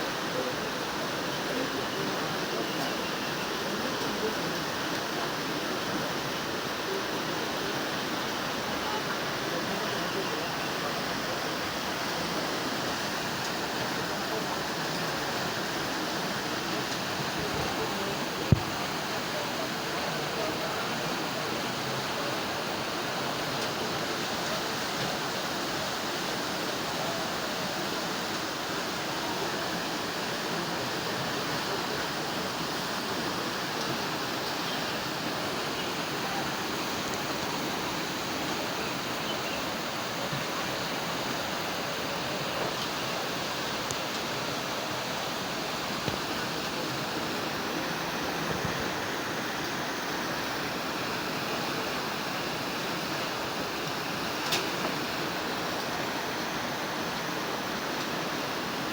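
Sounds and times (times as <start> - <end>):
floodwater rushing: 0.0 - 58.9.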